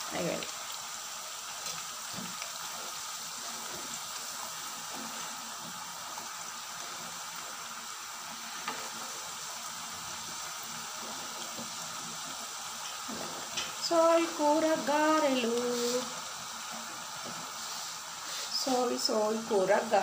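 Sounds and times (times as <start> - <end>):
fritters deep-frying in hot oil: 0.0 - 20.0.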